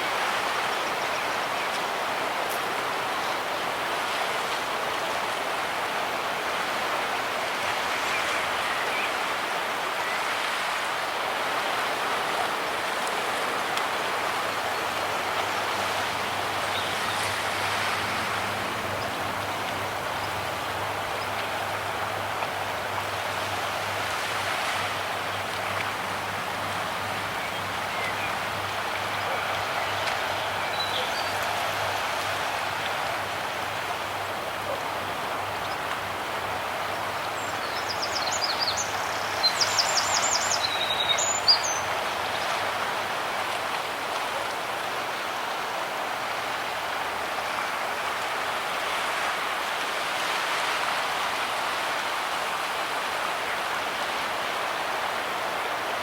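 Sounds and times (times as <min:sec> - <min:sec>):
small waves washing on shore: 0:00.0 - 0:56.0.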